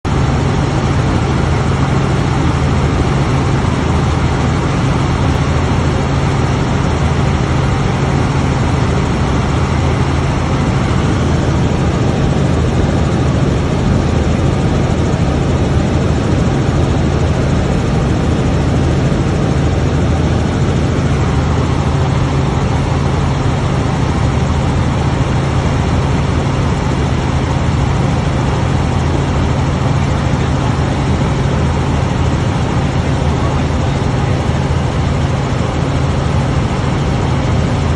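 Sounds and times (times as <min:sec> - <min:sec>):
helicopter engine and rotor: 0:00.0 - 0:37.9.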